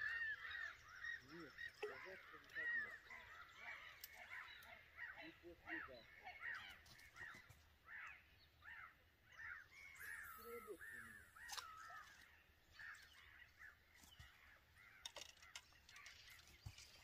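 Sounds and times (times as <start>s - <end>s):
bird calling in short arched calls: 0.0s - 16.4s.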